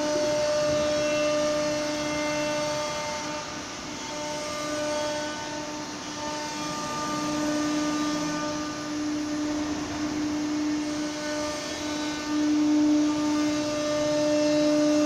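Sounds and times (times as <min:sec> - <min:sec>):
router spindle cutting wood: 0:00.0 - 0:15.0.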